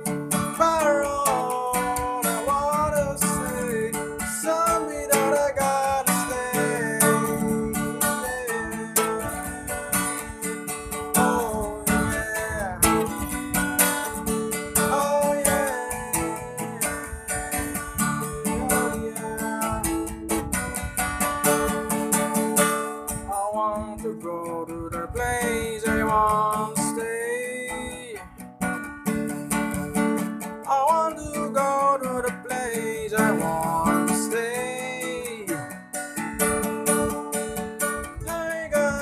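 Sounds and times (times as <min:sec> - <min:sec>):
lead guitar bending notes: 0:00.0 - 0:39.0
strummed guitar chords: 0:00.0 - 0:39.0.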